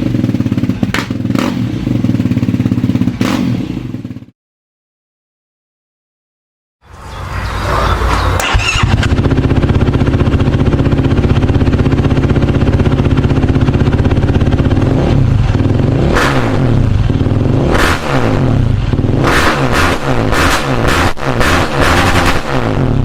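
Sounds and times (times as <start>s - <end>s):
quad engine idling and revving: 0.0s - 4.3s, 7.5s - 23.0s.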